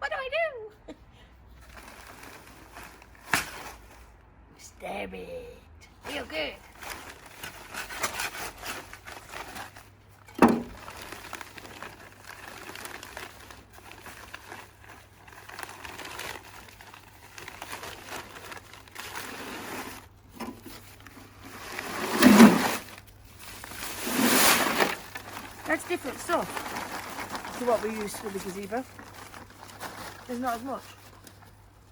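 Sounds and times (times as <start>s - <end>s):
plastic bag crinkling: 1.6s - 3.8s, 6.6s - 31.9s.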